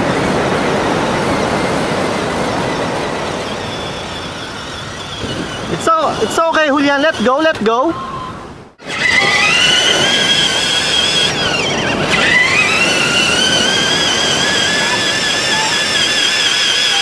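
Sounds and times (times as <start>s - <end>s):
faint surf: 0.0s - 17.0s
electric motor and gears whining: 0.1s - 8.2s, 8.8s - 17.0s.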